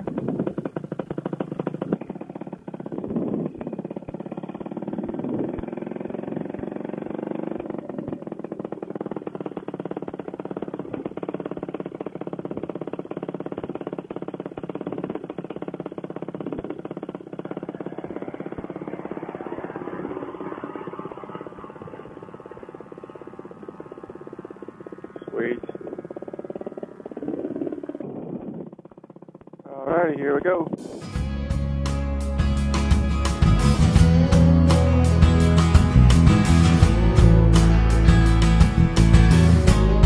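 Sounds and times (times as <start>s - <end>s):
paramotor engine running: 0.0s - 40.0s.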